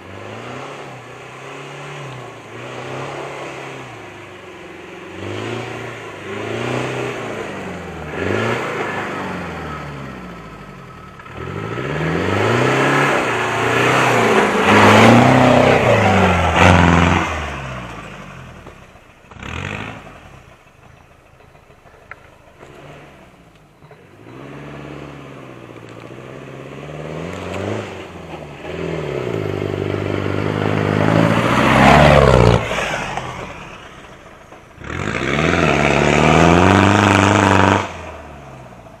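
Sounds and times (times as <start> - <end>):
diesel engine revving: 0.0 - 39.0.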